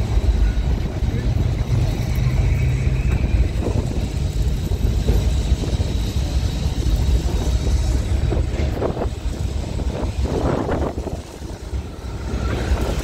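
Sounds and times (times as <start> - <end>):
tram rumbling on track: 0.0 - 13.0.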